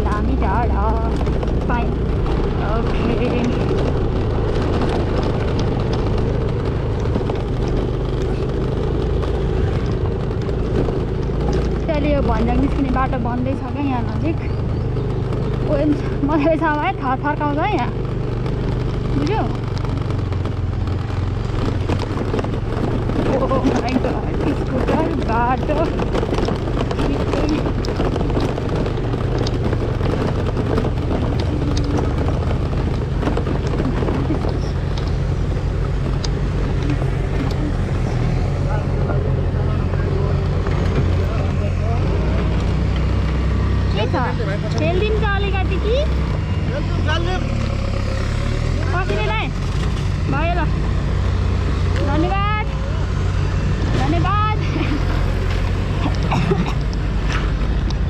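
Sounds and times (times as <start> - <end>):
knocks and rattles: 0.0 - 58.0
motor scooter engine running: 0.0 - 58.0.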